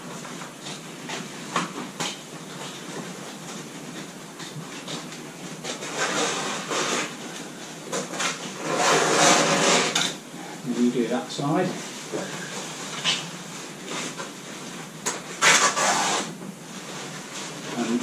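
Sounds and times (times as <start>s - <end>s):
roof covering rustling and scraping: 0.0s - 18.0s.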